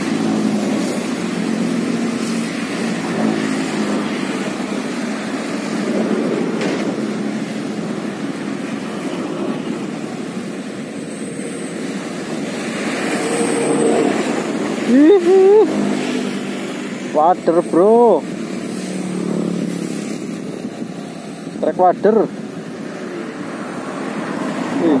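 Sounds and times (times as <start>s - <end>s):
road traffic rushing: 0.0s - 25.0s.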